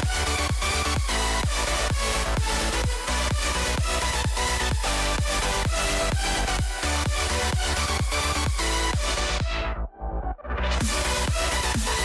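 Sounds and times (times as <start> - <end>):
kick drum beat: 0.0 - 9.7, 10.8 - 12.0.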